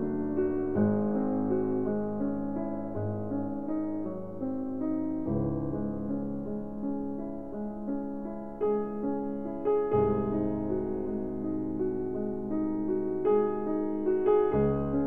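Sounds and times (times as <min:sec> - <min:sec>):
piano-like keyboard notes: 0:00.0 - 0:15.0.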